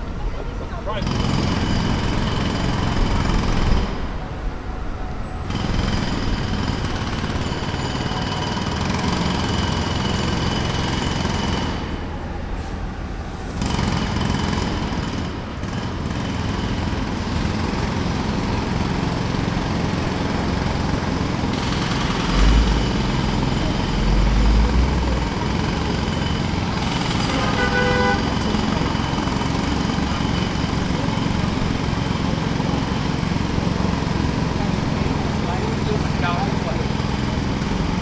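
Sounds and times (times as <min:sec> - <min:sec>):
jackhammer breaking pavement: 0:00.9 - 0:04.1, 0:05.5 - 0:12.2, 0:13.6 - 0:38.0.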